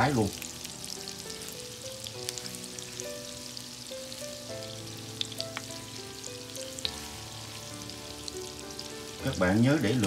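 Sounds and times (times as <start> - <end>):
butter sizzling in frying pan: 0.0 - 10.0
soft background music: 0.0 - 10.0.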